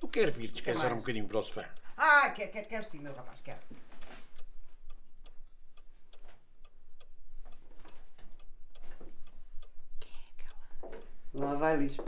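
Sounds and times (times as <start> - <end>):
steady light ticking: 0.0 - 12.0.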